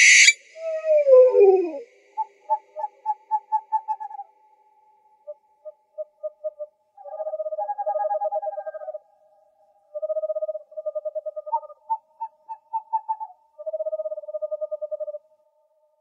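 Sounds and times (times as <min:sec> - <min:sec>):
owl calling in trills: 0:00.0 - 0:04.4, 0:05.2 - 0:09.1, 0:09.8 - 0:15.3.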